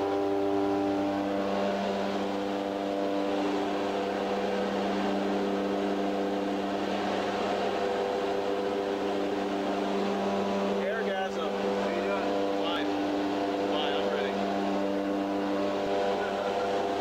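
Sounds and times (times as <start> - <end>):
plane engine droning: 0.0 - 17.0.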